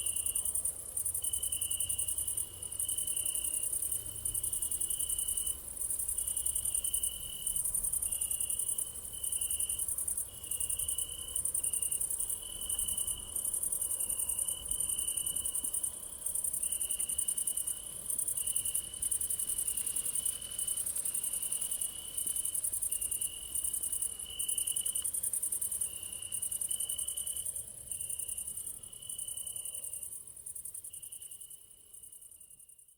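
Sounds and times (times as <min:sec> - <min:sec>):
crickets chirping: 0:00.0 - 0:32.9
low insect trill: 0:00.0 - 0:32.9.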